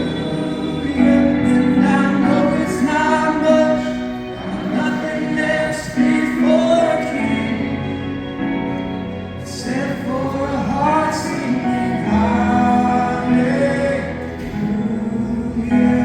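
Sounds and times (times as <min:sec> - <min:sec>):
music with singing voices: 0:00.0 - 0:16.0.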